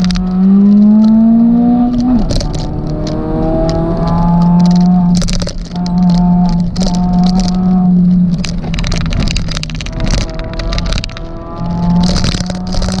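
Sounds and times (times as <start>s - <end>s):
car engine revving hard: 0.0s - 8.2s, 9.3s - 13.0s
sharp knocks and rattles: 0.0s - 13.0s.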